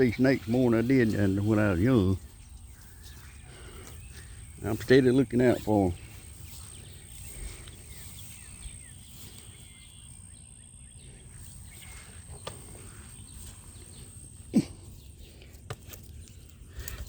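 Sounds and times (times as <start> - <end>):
bird chirps: 0.0 - 16.5.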